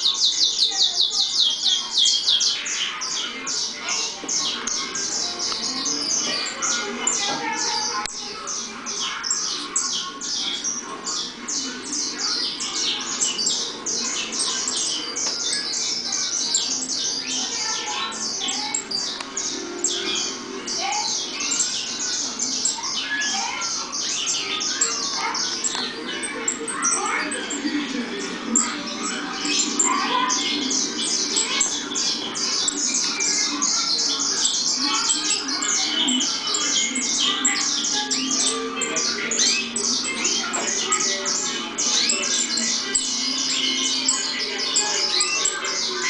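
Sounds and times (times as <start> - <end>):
finches chirping: 0.0 - 46.0.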